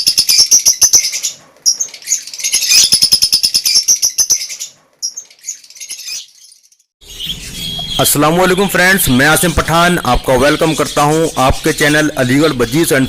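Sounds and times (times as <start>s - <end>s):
high bird chirps: 0.0s - 13.0s.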